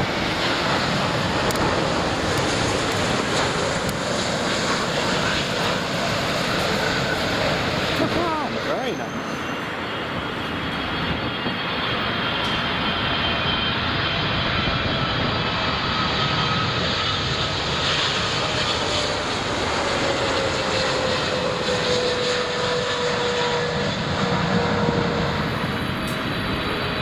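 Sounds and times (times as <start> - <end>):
jet airliner engines roaring: 0.0 - 27.0.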